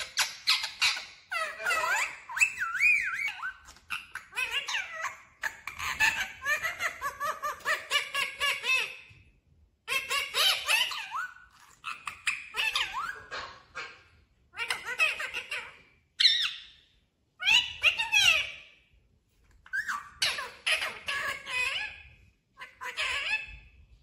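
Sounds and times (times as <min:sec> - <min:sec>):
parakeet chattering: 0:00.0 - 0:09.1, 0:09.9 - 0:16.8, 0:17.4 - 0:18.6, 0:19.6 - 0:23.6.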